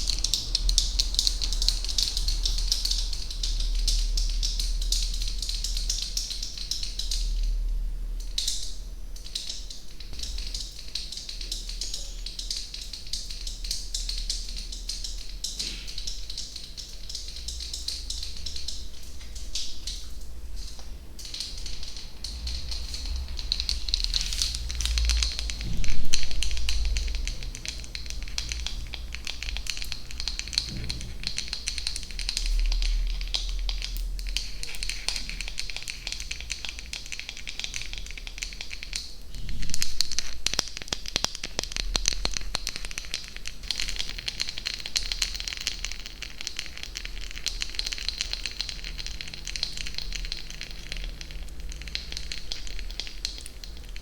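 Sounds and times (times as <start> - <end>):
tiny crackles and clicks: 0.0 - 54.0.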